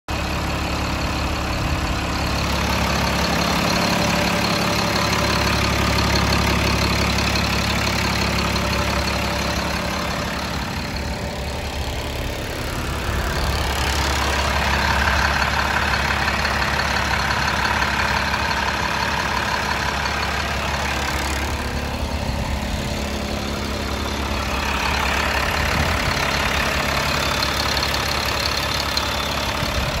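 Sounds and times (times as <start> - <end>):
diesel bus engine idling: 0.1 - 30.0.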